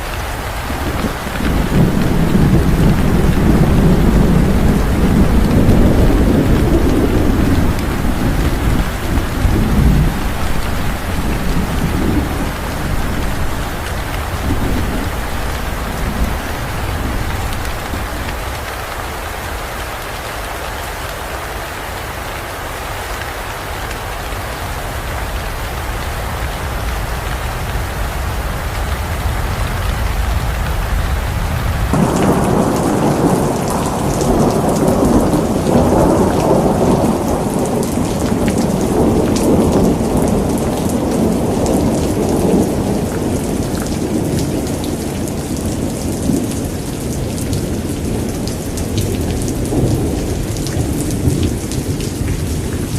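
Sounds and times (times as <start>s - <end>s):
thunder rumbling: 0.0s - 19.5s, 26.2s - 52.9s
heavy rain: 0.0s - 52.9s.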